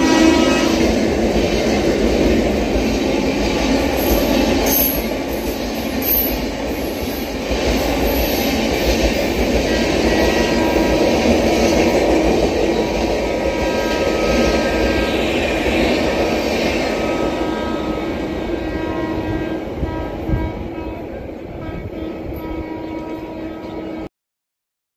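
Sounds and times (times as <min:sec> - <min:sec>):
train wheels rushing on rails: 0:00.0 - 0:24.1.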